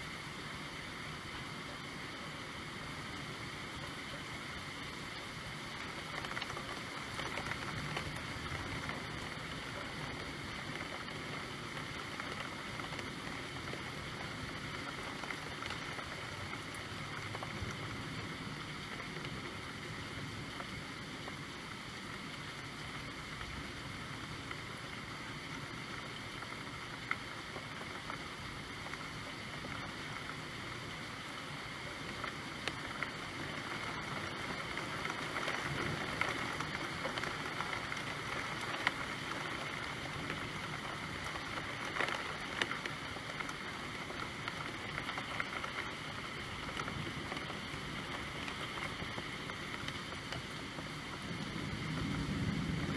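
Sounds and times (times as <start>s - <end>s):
steady rain falling: 0.0s - 52.9s
raindrop ticks: 0.7s - 52.9s.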